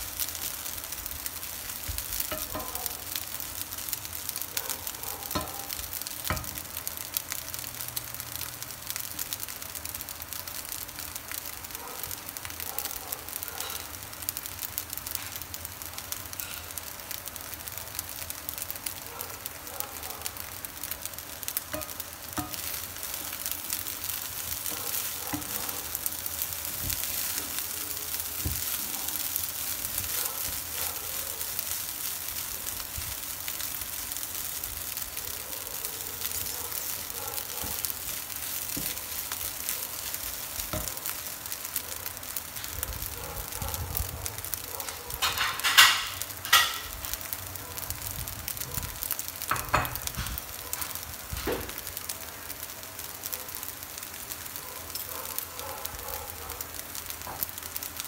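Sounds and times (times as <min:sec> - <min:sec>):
rice sizzling in a frying pan: 0:00.0 - 0:58.0.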